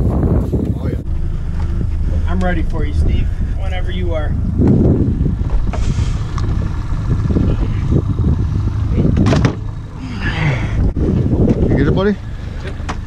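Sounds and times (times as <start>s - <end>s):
boat motor rumble: 0.0s - 13.0s
wind on microphone: 0.0s - 13.0s.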